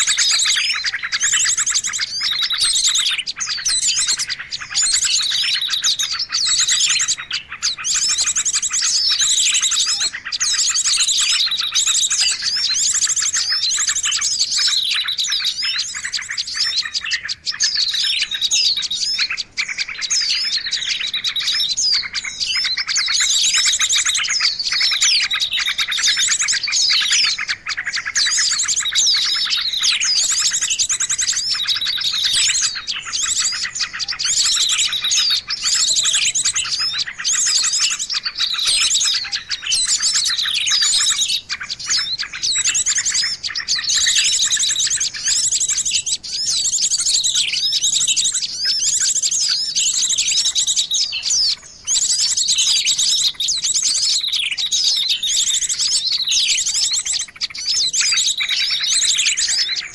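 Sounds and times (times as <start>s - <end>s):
rapid high bird trills: 0.0s - 59.9s
songbirds chirping: 0.0s - 59.9s.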